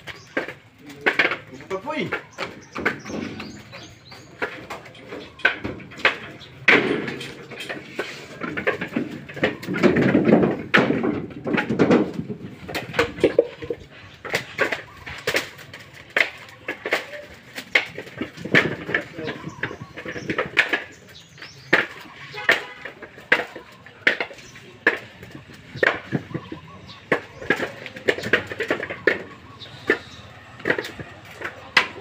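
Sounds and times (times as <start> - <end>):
coconuts knocking into baskets: 0.0 - 32.0.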